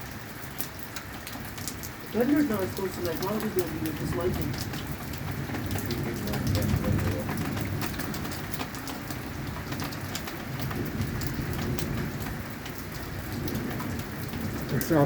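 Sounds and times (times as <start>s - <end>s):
heavy rain on a hard surface: 0.0s - 15.0s.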